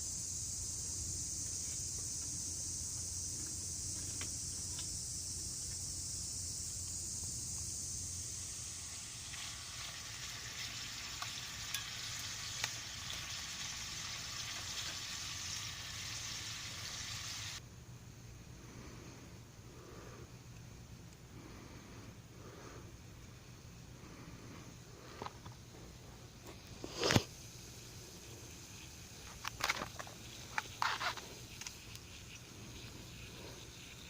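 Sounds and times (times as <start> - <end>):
sizzling hiss with pops: 0.0 - 17.6, 19.8 - 34.0.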